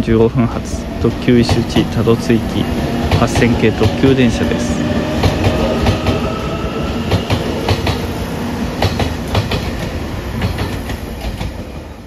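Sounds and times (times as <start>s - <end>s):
train wheels clacking over rail joints: 1.1s - 8.1s, 8.7s - 11.8s.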